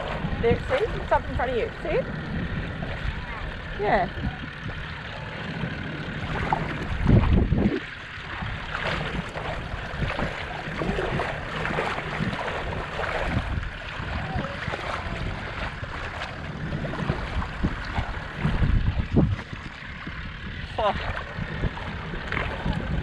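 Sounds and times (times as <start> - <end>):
low engine rumble: 0.0 - 23.0
water swishing around wheels: 0.0 - 23.0
wind buffeting microphone: 0.0 - 23.0.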